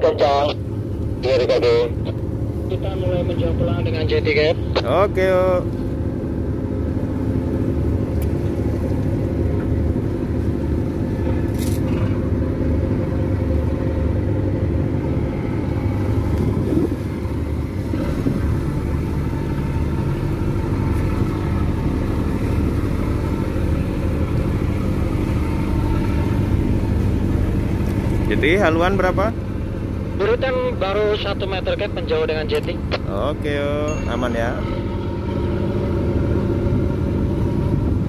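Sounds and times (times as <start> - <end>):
boat diesel engine rumble: 0.0 - 38.0.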